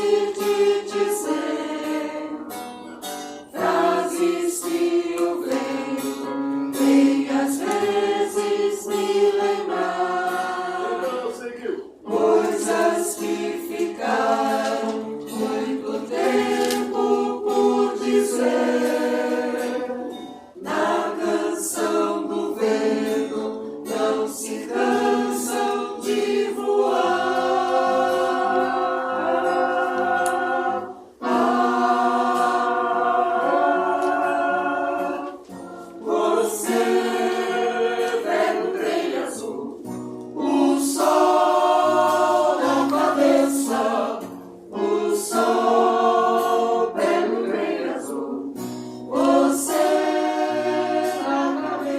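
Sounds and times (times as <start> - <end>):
choir singing in parts: 0.0 - 51.9.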